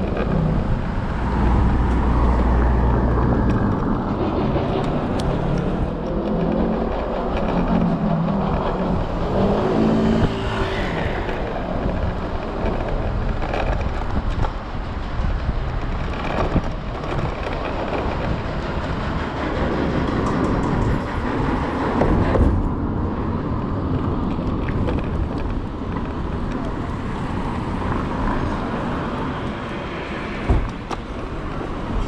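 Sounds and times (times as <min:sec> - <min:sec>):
car traffic: 0:00.0 - 0:32.0
scooter road rumble: 0:00.0 - 0:32.0
wind noise: 0:00.0 - 0:32.0.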